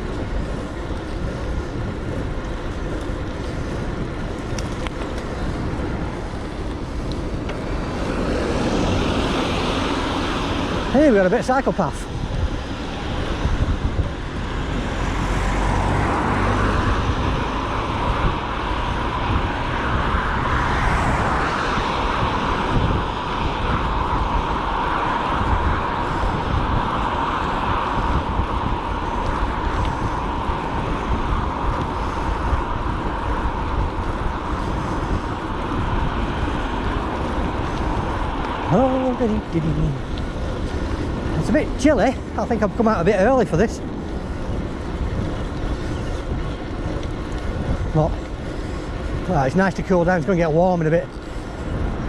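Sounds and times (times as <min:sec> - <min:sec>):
bike tyres rolling: 0:00.0 - 0:52.0
passing road traffic: 0:00.0 - 0:52.0
wind buffeting microphone: 0:00.0 - 0:52.0.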